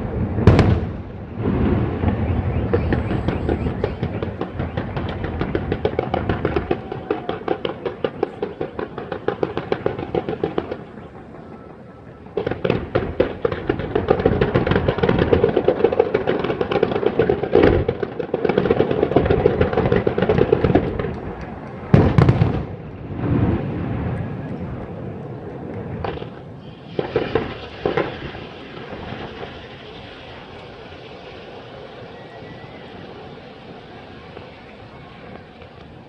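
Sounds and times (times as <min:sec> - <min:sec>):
loud firework bang: 0:00.0 - 0:11.0, 0:12.3 - 0:24.4, 0:25.8 - 0:35.8
fireworks crackling and popping: 0:00.0 - 0:36.0.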